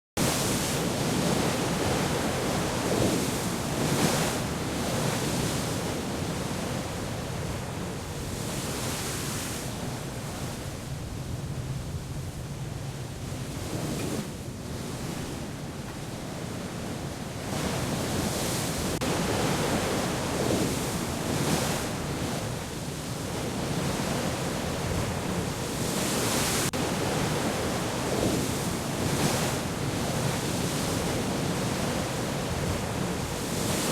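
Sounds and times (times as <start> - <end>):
sea waves: 0.2 - 33.9
wind: 0.2 - 33.9.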